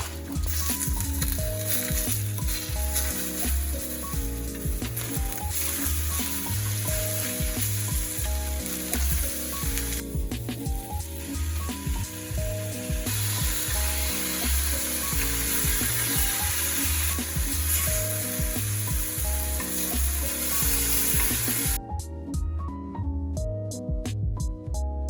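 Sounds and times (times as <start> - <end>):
food sizzling in a pan: 0.0 - 21.8
soft background music: 0.0 - 25.0.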